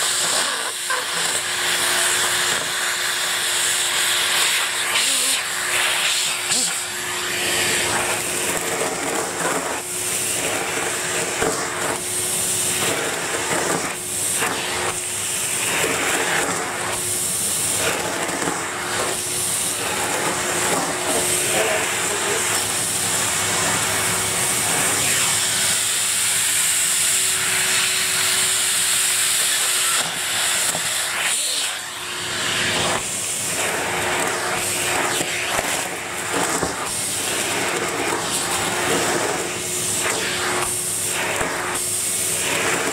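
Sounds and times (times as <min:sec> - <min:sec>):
vacuum cleaner humming: 0:00.0 - 0:42.9.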